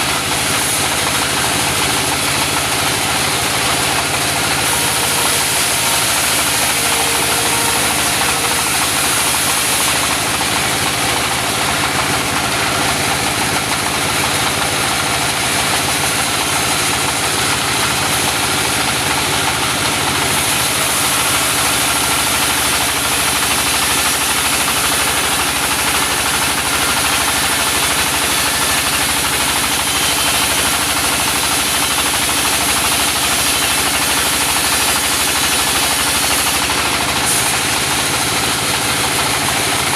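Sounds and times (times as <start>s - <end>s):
saw cutting through log: 0.0s - 39.9s
sawmill engine running: 0.0s - 39.9s.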